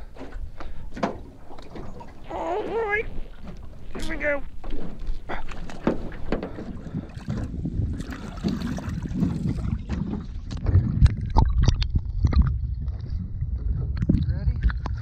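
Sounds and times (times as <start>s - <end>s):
water sloshing: 0.0s - 13.7s
wind rumble on microphone: 0.0s - 15.0s.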